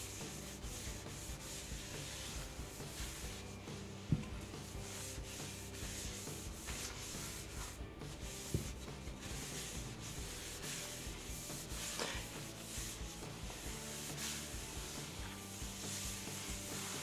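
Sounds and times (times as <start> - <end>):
cloth rag rubbing on wood: 0.0 - 17.0.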